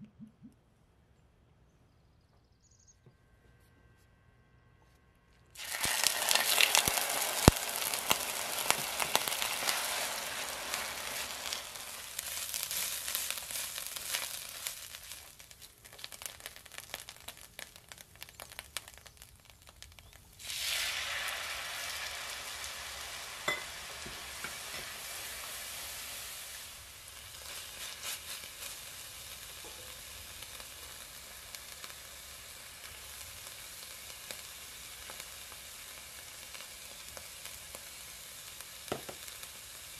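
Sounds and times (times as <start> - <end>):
onion sizzling in hot oil: 5.6 - 39.9.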